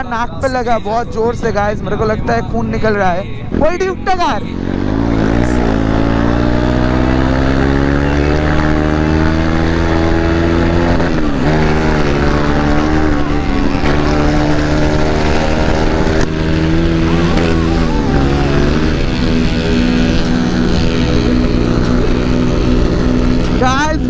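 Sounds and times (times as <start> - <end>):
motorcycle engine accelerating: 1.2 - 24.0.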